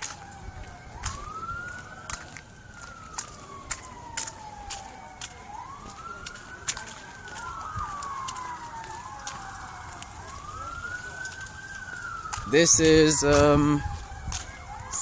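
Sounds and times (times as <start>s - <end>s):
emergency sirens wailing: 0.0s - 15.0s.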